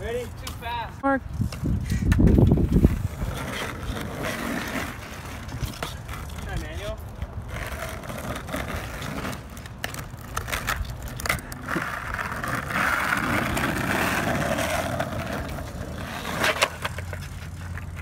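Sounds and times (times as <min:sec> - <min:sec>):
skateboard wheels rolling on asphalt: 0:00.0 - 0:18.0
skateboard clicks and knocks: 0:01.5 - 0:18.0.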